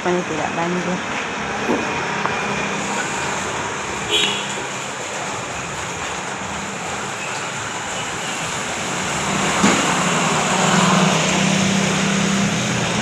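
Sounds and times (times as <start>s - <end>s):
tyres hissing on wet road: 0.6s - 13.0s
falling rain: 1.0s - 13.0s.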